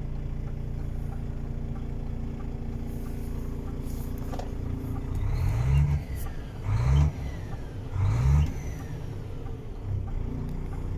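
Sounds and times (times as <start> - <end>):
truck diesel engine idling and revving: 0.0 - 10.9.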